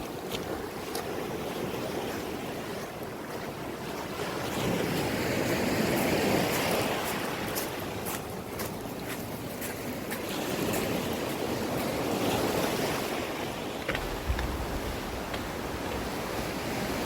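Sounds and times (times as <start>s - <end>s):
sea waves washing onto shore: 0.0s - 17.0s
wind blowing: 0.0s - 17.0s
wind buffeting microphone: 0.0s - 17.0s.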